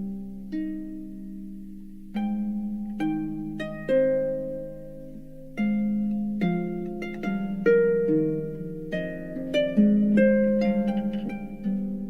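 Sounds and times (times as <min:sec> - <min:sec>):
harp plucked notes and chords: 0:00.0 - 0:12.0.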